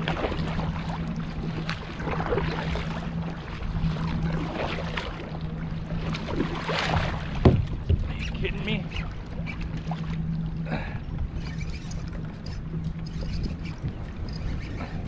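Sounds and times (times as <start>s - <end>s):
steady low hum: 0.0s - 15.0s
water lapping against hull: 0.0s - 15.0s.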